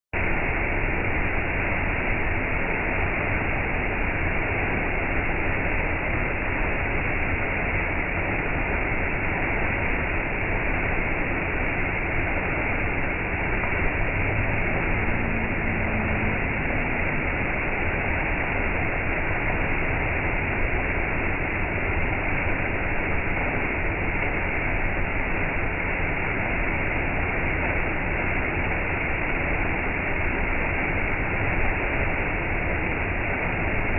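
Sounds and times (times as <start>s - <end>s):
waterfall rushing over rocks: 0.2s - 33.9s.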